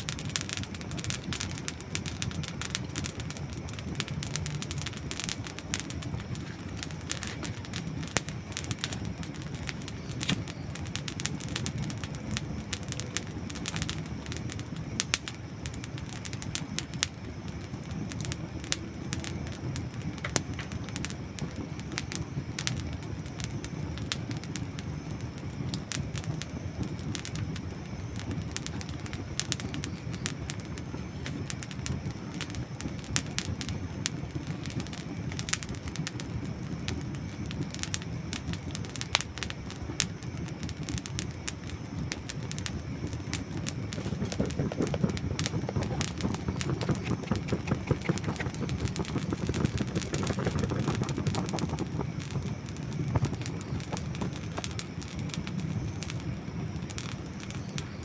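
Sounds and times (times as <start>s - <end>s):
campfire crackles and pops: 0.0s - 58.0s
steady low fire rumble: 0.0s - 58.0s.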